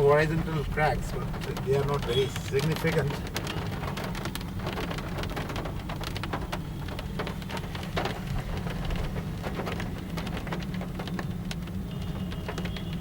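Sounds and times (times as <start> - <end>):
rain pattering on a car: 0.0 - 13.0.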